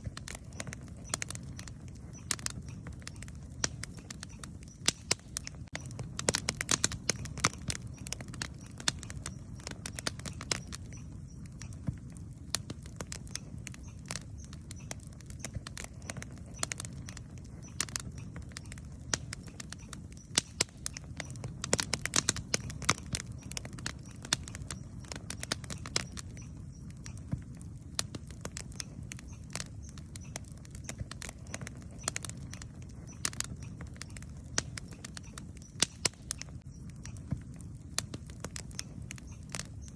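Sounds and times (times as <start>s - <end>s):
burning wood crackling and popping: 0.0s - 39.9s
low rumble of flames: 0.0s - 39.9s.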